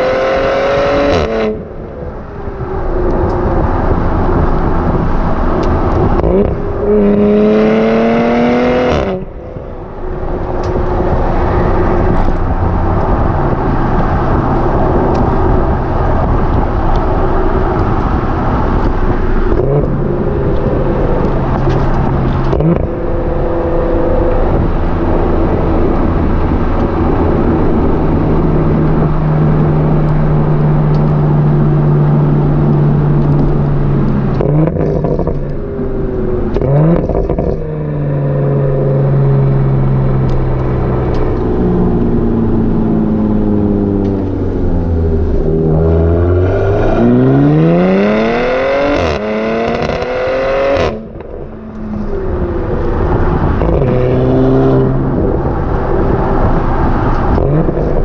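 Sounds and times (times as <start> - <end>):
car engine revving: 0.0 - 58.0
low exhaust drone: 0.0 - 58.0
road and wind noise: 0.0 - 58.0.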